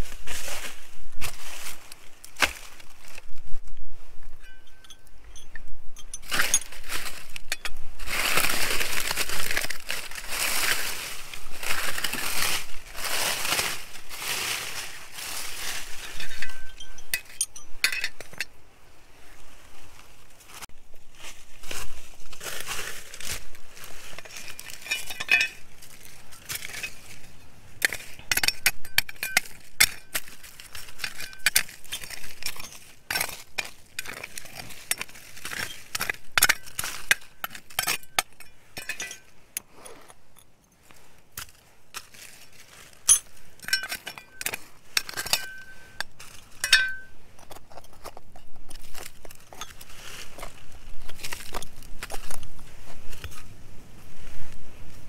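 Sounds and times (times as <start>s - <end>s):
metal trowel scraping gravel: 4.4s - 18.5s, 22.4s - 52.4s.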